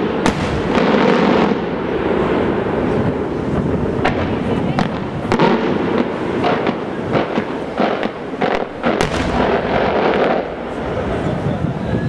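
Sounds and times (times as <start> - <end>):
background noise: 0.0 - 12.0
fireworks bangs: 0.0 - 12.0.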